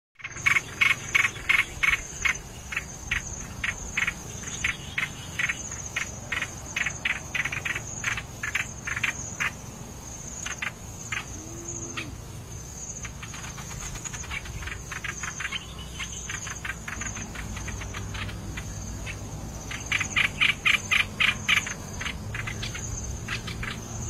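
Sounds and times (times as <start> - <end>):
bird chip calls: 0.2 - 9.6, 10.3 - 12.2, 13.0 - 24.0
insects trilling: 0.2 - 24.0.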